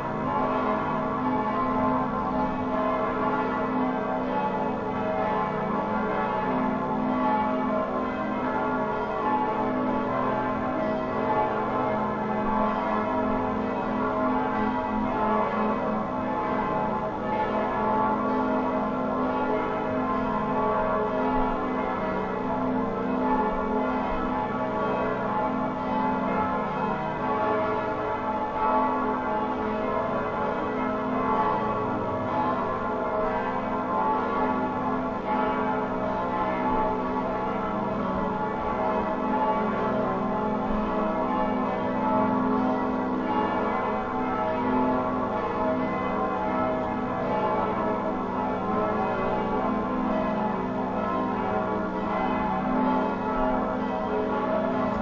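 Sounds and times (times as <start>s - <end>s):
church bells pealing: 0.0s - 55.0s.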